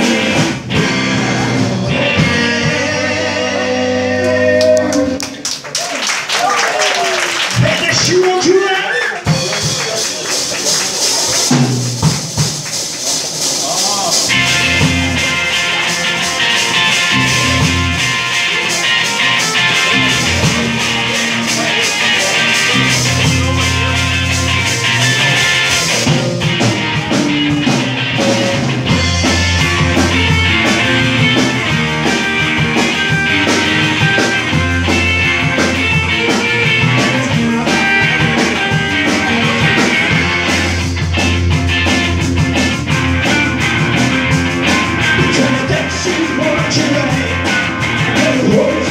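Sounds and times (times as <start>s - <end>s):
electric bass: 0.0s - 5.4s, 13.6s - 48.9s
drum kit: 0.0s - 48.9s
electric guitars: 0.0s - 48.9s.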